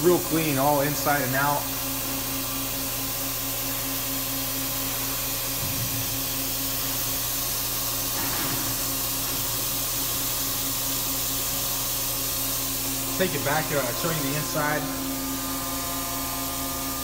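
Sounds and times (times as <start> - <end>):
machine humming with fan hiss: 0.0 - 17.0.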